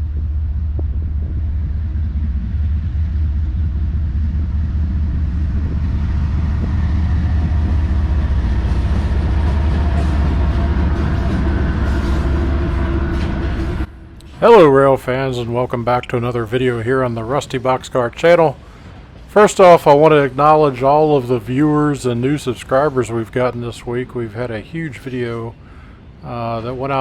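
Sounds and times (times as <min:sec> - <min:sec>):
freight train rumbling by: 0:00.0 - 0:27.0.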